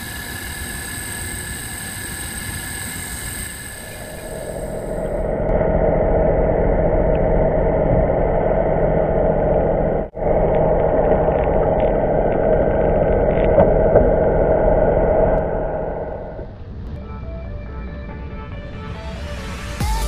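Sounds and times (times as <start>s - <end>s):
muffled underwater boat engine drone: 0.0s - 17.1s.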